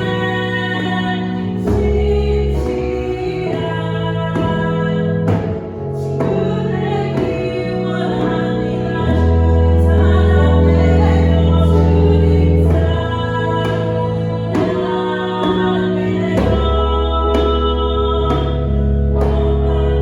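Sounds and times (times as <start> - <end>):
keyboard accompaniment: 0.0 - 20.0
person singing: 0.0 - 20.0.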